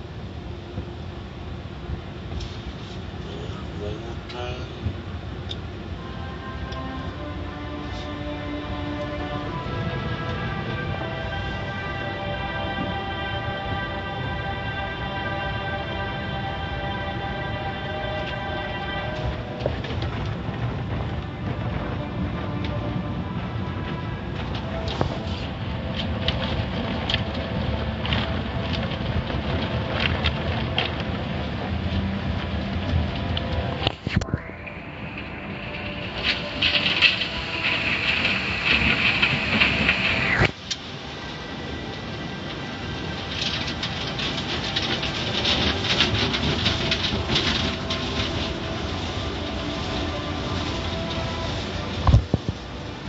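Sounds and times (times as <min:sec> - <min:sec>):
water spraying over car: 0:01.9 - 0:53.0.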